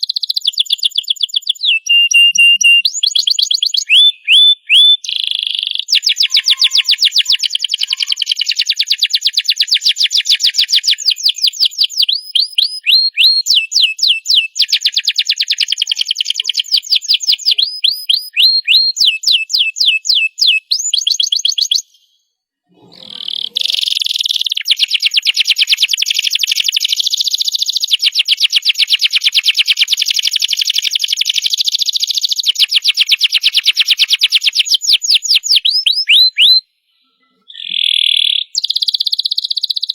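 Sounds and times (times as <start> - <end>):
canary singing trills: 0.0 - 22.2, 22.8 - 39.9.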